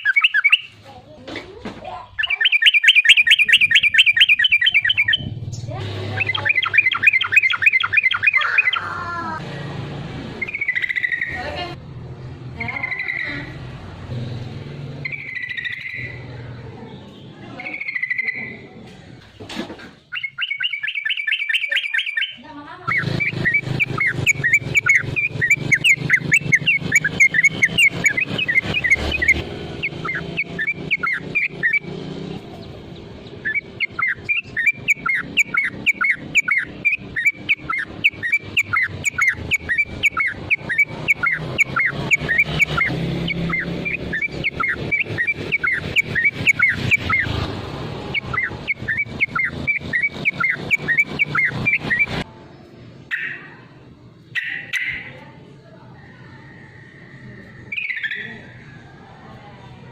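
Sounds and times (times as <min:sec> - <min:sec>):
bulbul calls and chirps: 0:00.0 - 0:00.8, 0:02.0 - 0:08.9, 0:10.4 - 0:11.4, 0:12.6 - 0:13.6, 0:15.0 - 0:16.3, 0:17.1 - 0:18.6, 0:20.1 - 0:47.5, 0:48.1 - 0:52.3, 0:53.1 - 0:53.6, 0:54.3 - 0:55.2, 0:56.1 - 0:58.6.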